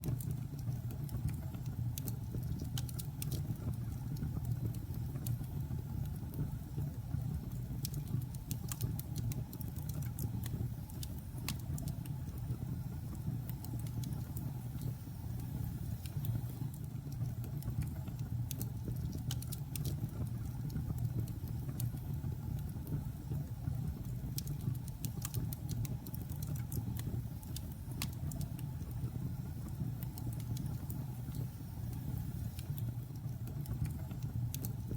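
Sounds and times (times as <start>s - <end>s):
fire crackling and popping: 0.0s - 34.9s
fire rumbling in fireplace: 0.0s - 34.9s.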